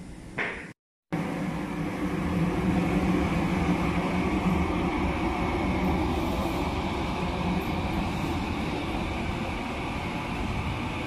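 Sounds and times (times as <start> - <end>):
electric train running: 1.2 - 11.0.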